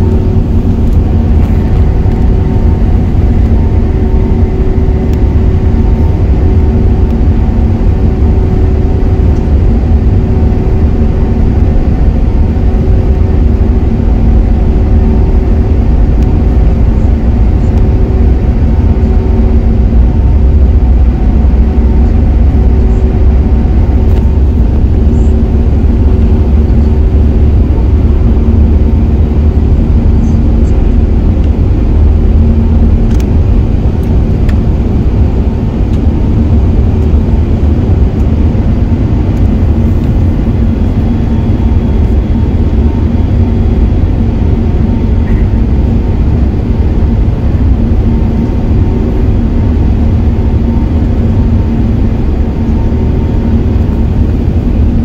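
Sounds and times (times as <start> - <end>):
jet engines rumbling from cabin: 0.0 - 55.0.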